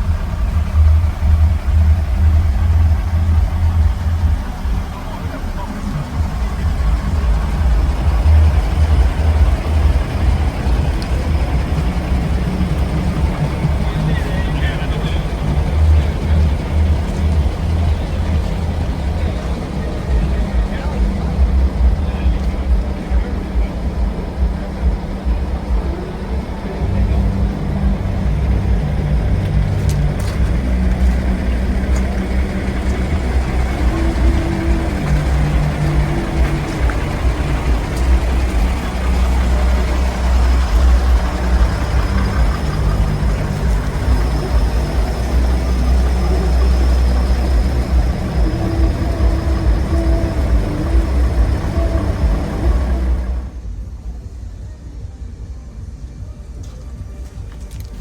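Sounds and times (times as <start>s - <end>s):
diesel truck engine rumbling: 0.0s - 58.0s.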